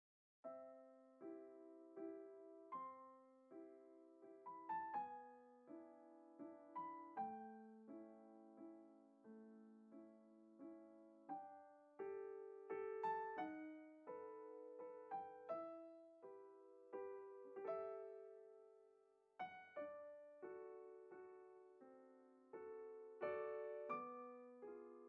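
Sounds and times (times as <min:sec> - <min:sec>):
slow solo piano: 0:00.4 - 0:25.0.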